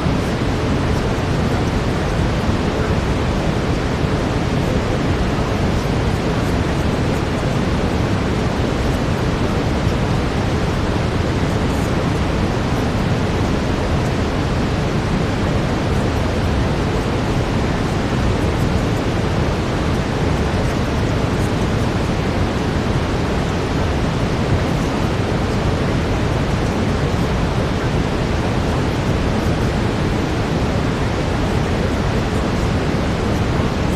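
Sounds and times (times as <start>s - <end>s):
deep brown noise hiss: 0.0s - 33.9s.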